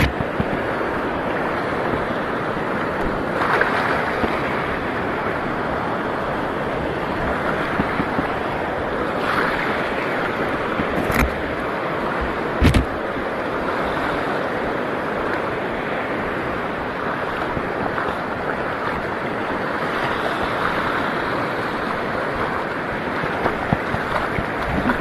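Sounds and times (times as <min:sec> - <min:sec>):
wind on microphone: 0:00.0 - 0:15.4, 0:16.1 - 0:25.0
waves washing in shallow water: 0:00.0 - 0:25.0.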